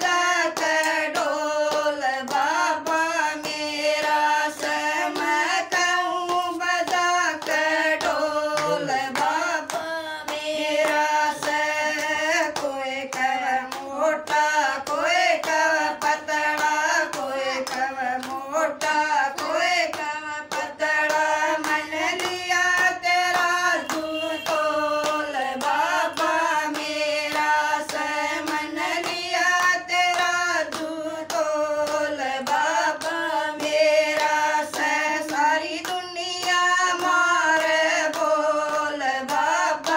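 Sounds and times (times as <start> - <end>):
hand claps: 0.0 - 39.9
women singing together: 0.0 - 39.9.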